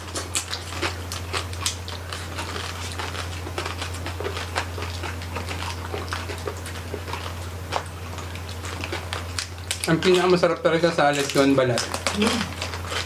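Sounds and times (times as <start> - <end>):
chewing crispy food: 0.0 - 13.0
steady low hum: 0.0 - 13.0.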